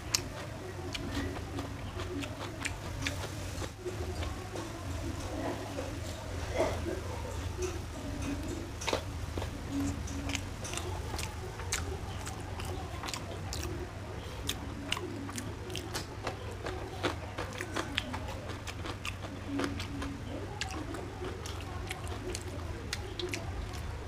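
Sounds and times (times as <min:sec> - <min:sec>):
person chewing: 0:00.0 - 0:06.8, 0:07.4 - 0:24.0
steady low hum: 0:00.0 - 0:24.0.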